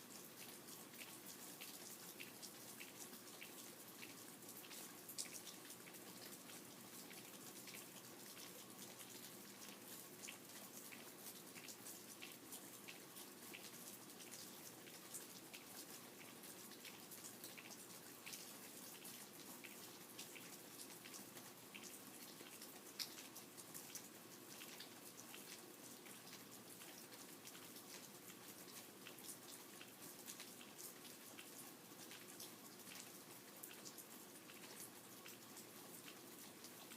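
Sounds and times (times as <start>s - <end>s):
light rain hiss: 0.0s - 36.9s.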